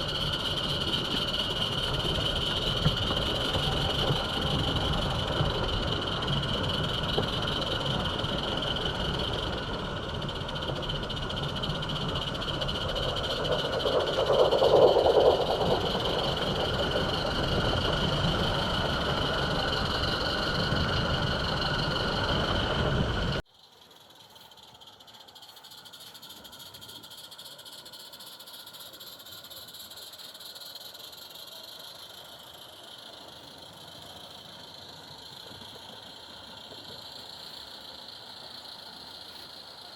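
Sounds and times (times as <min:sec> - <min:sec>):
wheels rumbling on rail: 0:00.0 - 0:23.4, 0:29.7 - 0:39.9
high-pitched whine: 0:00.0 - 0:39.9.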